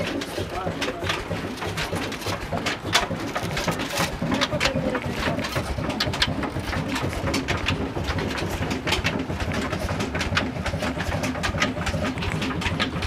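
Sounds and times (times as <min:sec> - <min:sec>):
flour mill rumbling: 0:00.0 - 0:13.0
rapid irregular clicking: 0:00.0 - 0:13.0.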